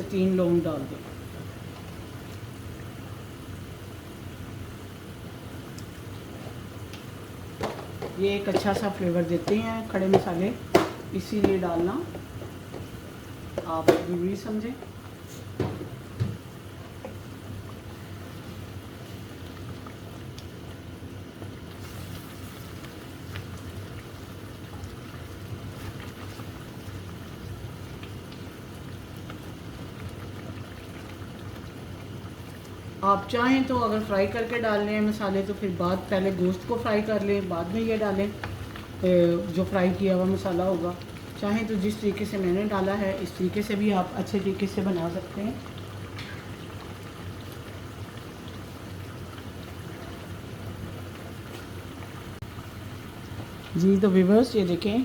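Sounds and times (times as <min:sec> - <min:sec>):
masala sizzling in oil: 0:00.0 - 0:55.0
sauce bubbling and frying in pot: 0:00.0 - 0:55.0.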